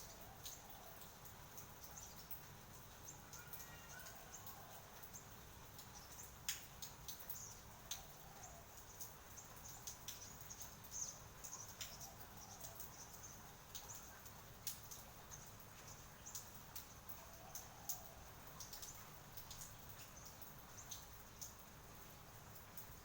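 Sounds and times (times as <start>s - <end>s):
raindrops tapping: 0.0s - 23.0s.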